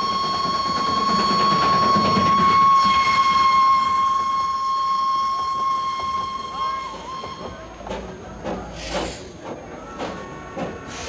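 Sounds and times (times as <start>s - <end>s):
steam train rumbling: 0.0s - 11.0s.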